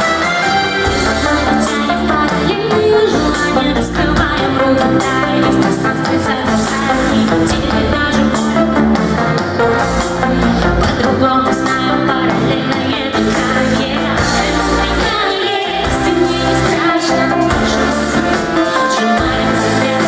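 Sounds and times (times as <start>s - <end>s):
pop band with keyboards: 0.0s - 20.0s
woman singing: 0.8s - 9.4s, 10.2s - 20.0s.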